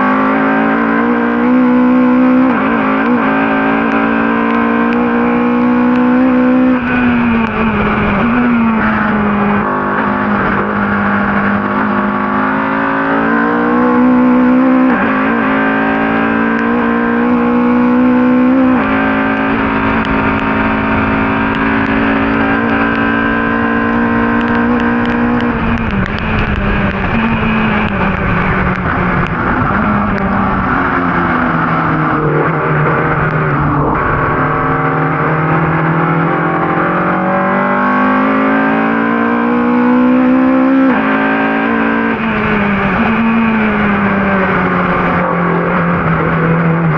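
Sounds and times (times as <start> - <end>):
race car engine at high revs: 0.0 - 46.9.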